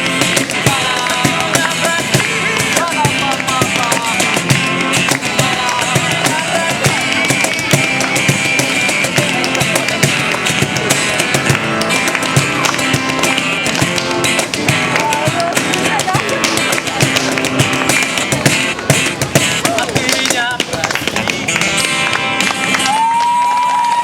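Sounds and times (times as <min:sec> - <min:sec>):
live rock band playing: 0:00.0 - 0:20.1
drum kit beat: 0:00.0 - 0:23.1.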